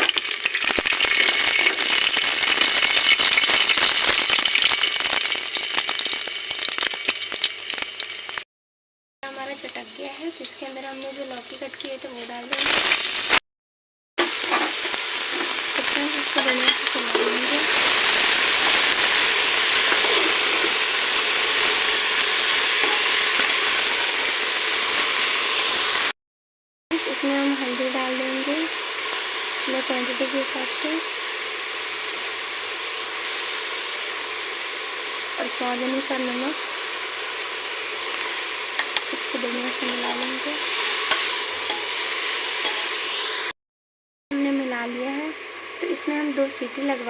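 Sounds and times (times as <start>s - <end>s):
seeds crackling in hot oil: 0.0s - 8.4s, 9.2s - 13.4s, 14.2s - 26.1s, 27.0s - 43.5s.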